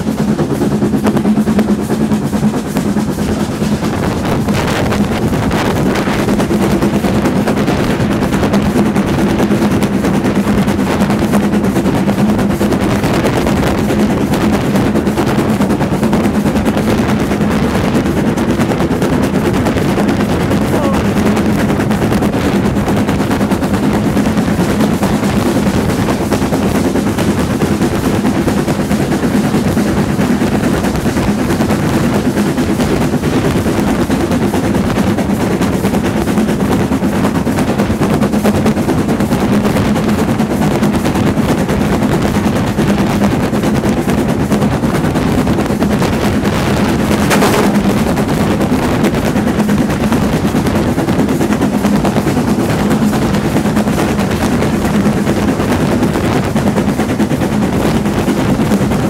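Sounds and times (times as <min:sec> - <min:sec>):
steam locomotive exhaust beats: 0:00.0 - 0:59.0
wheels on rails: 0:00.0 - 0:59.0
wind rushing over microphone: 0:00.0 - 0:59.0.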